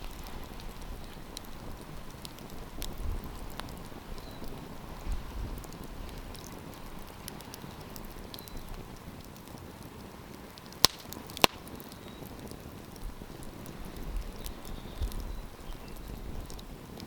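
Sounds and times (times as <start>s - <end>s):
campfire crackling: 0.0s - 17.0s
loud sharp pops from fire: 0.0s - 17.0s.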